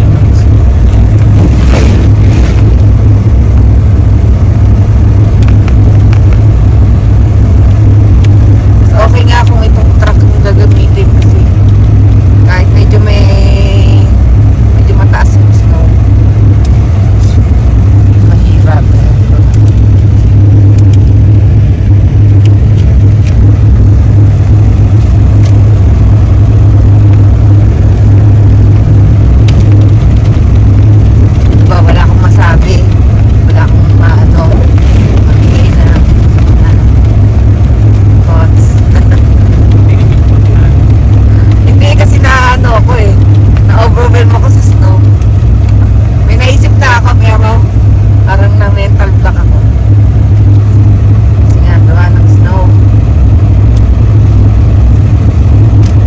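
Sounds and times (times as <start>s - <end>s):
truck engine and road drone: 0.0s - 56.0s.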